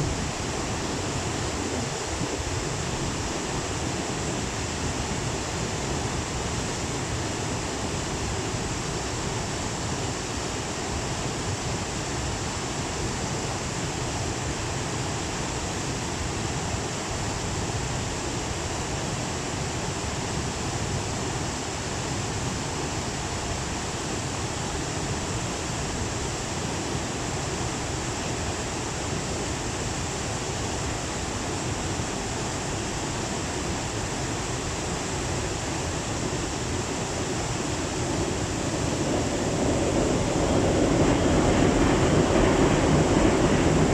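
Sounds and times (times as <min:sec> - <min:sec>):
flooded river roaring: 0:00.0 - 0:43.9.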